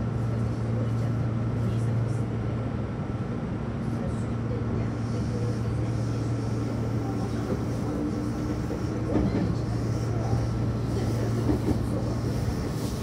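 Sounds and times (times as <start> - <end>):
train running noise with hum: 0.0 - 13.0.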